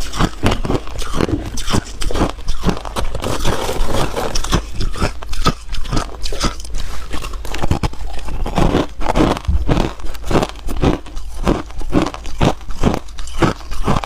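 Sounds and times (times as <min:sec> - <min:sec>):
ice crunching between teeth: 0:00.0 - 0:14.0.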